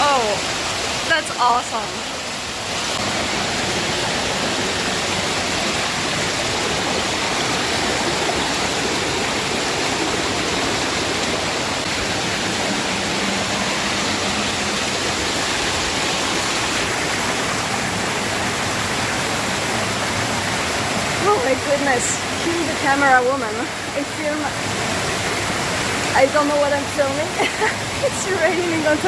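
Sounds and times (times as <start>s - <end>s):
waterfall and stream rushing: 0.0s - 29.0s.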